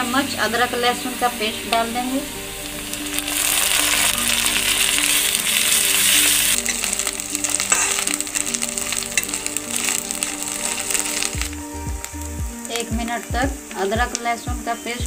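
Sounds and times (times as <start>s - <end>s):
onions sizzling in hot oil: 0.0s - 15.0s
soft background music: 0.0s - 15.0s.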